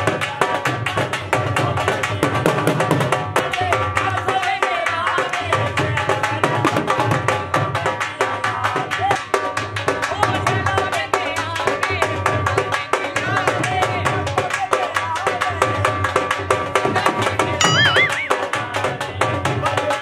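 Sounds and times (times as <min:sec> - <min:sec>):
dhol drums beaten with sticks: 0:00.0 - 0:20.0.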